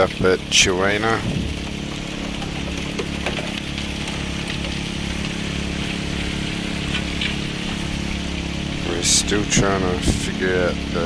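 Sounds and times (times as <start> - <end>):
small petrol engine running: 0.0 - 11.0
water rushing through a sluice: 0.0 - 11.0.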